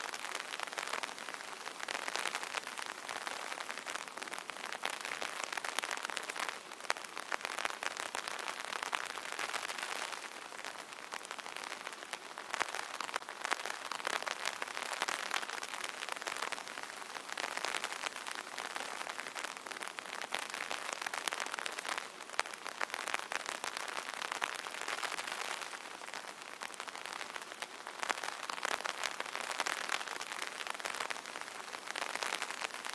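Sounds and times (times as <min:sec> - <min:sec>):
rain pattering on an umbrella: 0:00.0 - 0:32.9.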